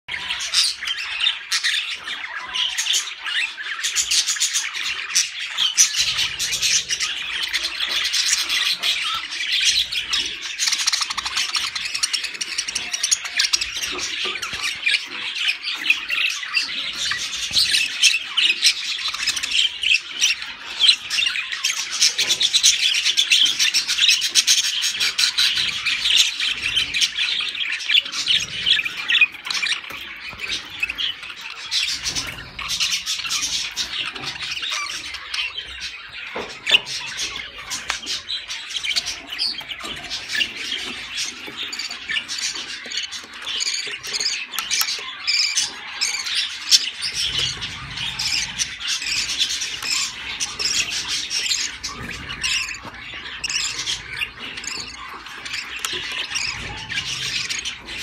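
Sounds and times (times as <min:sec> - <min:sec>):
budgerigars chattering and squawking: 0:00.1 - 0:58.0.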